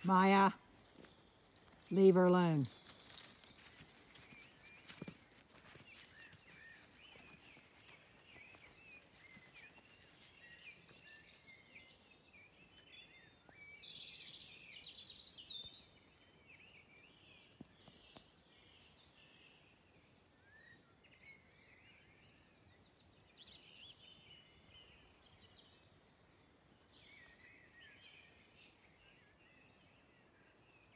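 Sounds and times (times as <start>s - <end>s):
small birds chirping and warbling: 2.7s - 30.9s.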